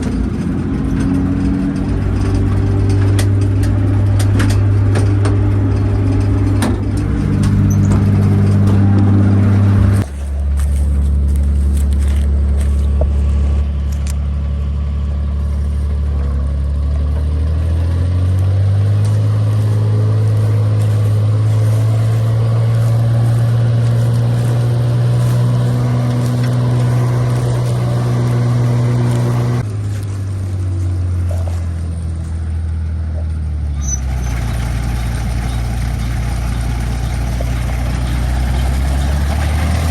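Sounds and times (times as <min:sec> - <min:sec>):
combine engine running: 0:00.0 - 0:39.9.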